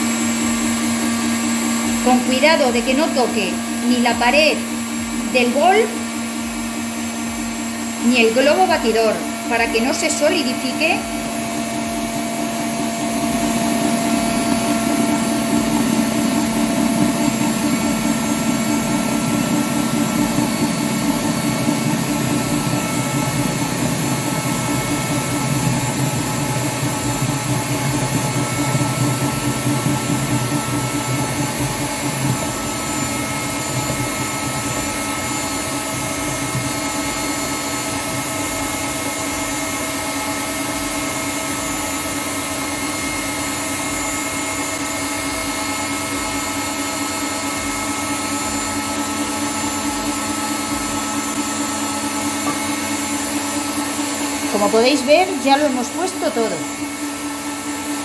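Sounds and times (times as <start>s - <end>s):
stand mixer motor whirring: 0.0s - 58.0s.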